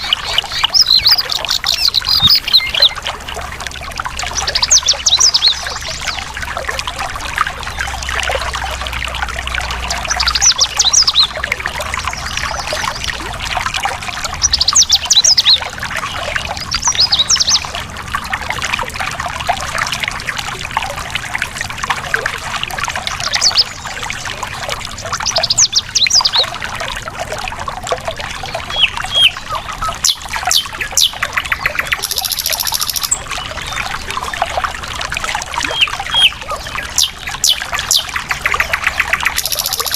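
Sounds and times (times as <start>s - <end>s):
songbirds singing: 0.0s - 17.8s, 23.0s - 26.6s, 28.2s - 39.9s
water flowing over rocks: 0.0s - 39.9s.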